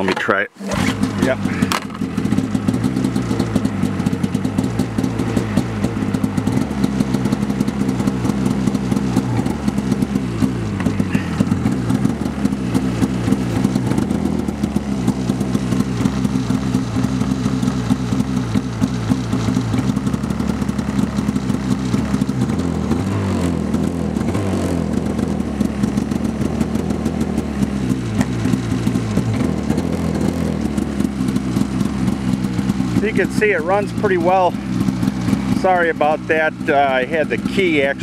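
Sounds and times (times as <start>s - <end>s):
snowmobile engine idling: 0.0s - 38.0s.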